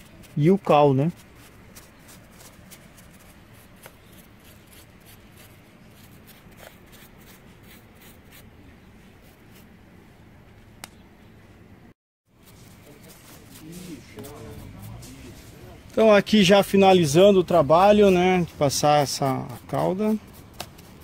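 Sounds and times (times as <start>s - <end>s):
scratchy brush strokes: 0.0s - 9.8s, 12.3s - 21.0s
low steady background noise: 0.0s - 21.0s.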